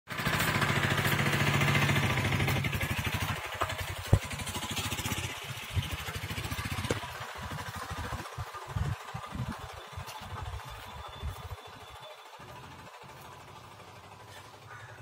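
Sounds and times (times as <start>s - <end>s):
engine running with fast pulse: 0.1s - 15.0s.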